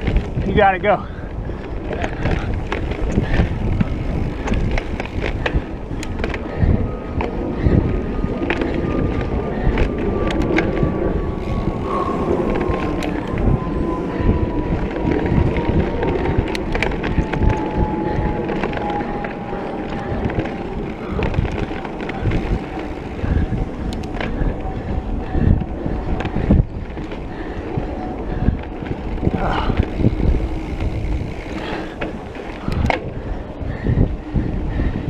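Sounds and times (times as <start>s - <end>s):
tyres on loose dirt: 0.0s - 34.6s
bike clacking and rattling: 0.0s - 35.0s
wind on microphone: 0.0s - 35.0s.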